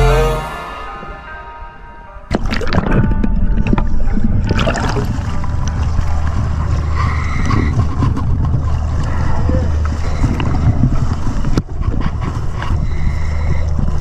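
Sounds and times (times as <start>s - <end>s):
boat engine humming: 0.0s - 14.0s
wind and water noise: 0.0s - 14.0s.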